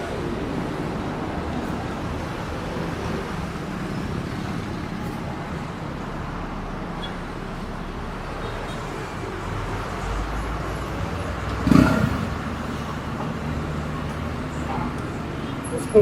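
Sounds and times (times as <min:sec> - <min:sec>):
engine humming: 0:00.0 - 0:16.0
road traffic noise: 0:00.0 - 0:16.0.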